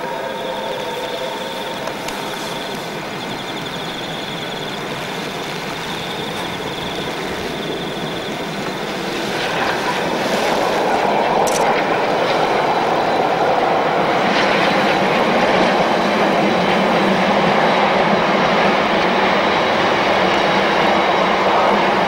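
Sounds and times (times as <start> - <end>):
steam locomotive exhaust: 0.0 - 22.0
train wheels on rail: 0.0 - 22.0.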